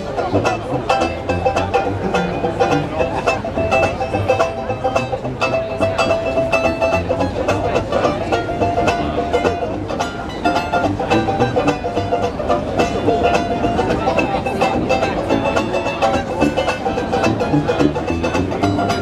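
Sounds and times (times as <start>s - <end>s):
banjo strumming: 0.0s - 19.0s
sousaphone bass line: 0.0s - 19.0s
wind instrument melody: 0.0s - 19.0s.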